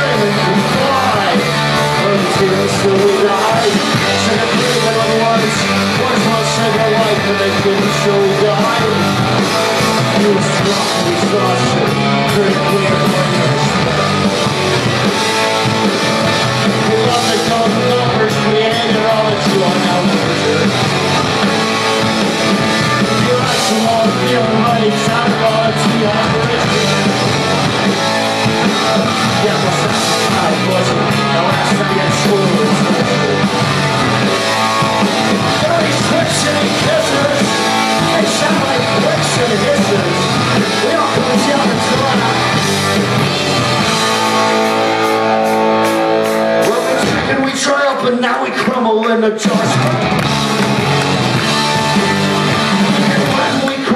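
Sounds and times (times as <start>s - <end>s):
loud live rock band: 0.0s - 53.9s.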